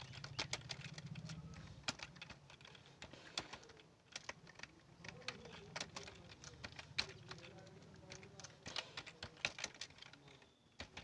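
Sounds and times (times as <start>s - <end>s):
typing on a computer keyboard: 0.0s - 11.0s.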